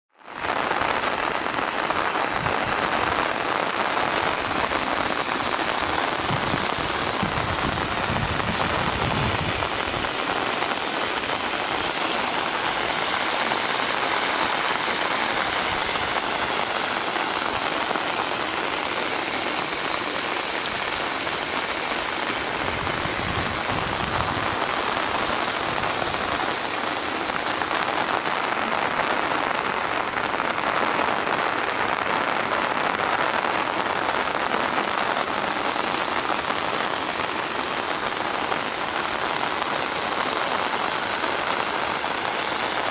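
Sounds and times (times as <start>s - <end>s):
heavy rain falling: 0.1s - 42.9s
water running through a ditch: 0.2s - 42.9s.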